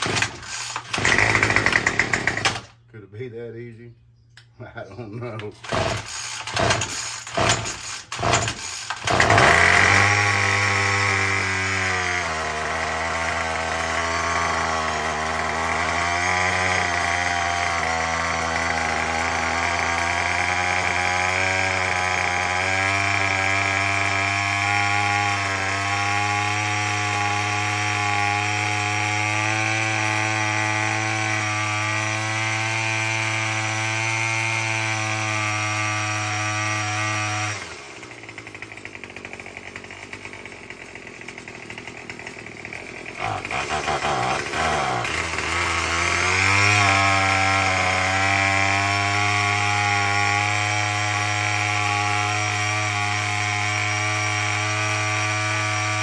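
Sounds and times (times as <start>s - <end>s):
string trimmer engine starting and running: 0.0s - 2.9s, 5.2s - 56.0s.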